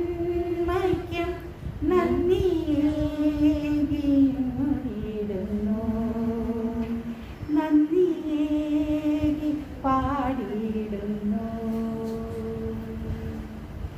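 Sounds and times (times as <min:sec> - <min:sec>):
woman singing a hymn unaccompanied: 0:00.0 - 0:13.7.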